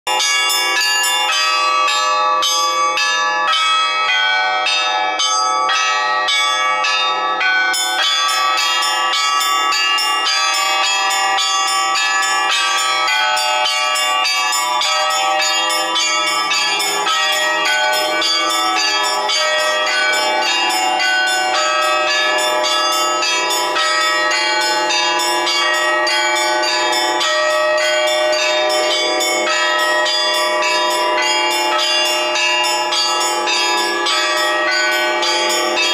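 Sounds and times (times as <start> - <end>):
church bells pealing: 0.1 - 35.9.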